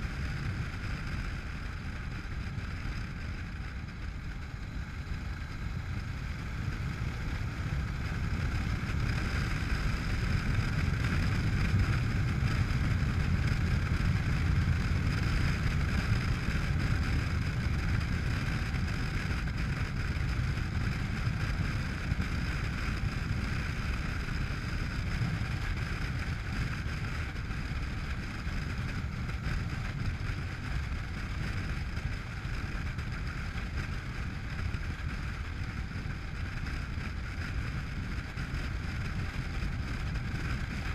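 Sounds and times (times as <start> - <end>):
motorcycle engine running: 0.0 - 40.9
wind rushing over camera: 0.0 - 40.9.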